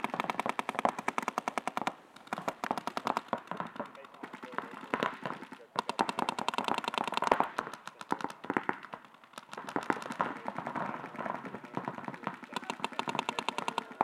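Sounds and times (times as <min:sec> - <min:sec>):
paintball markers firing: 0:00.0 - 0:14.0.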